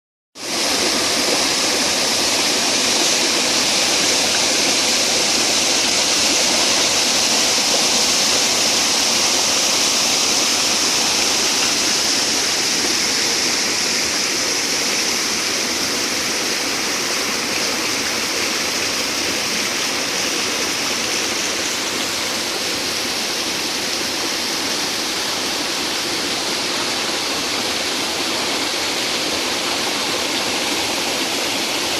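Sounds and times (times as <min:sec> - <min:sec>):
stream water rushing: 0:00.4 - 0:31.9.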